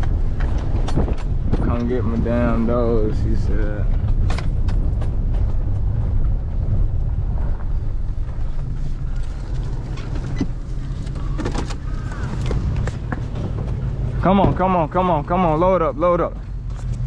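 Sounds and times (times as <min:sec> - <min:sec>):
truck engine and tyre rumble: 0:00.0 - 0:17.0.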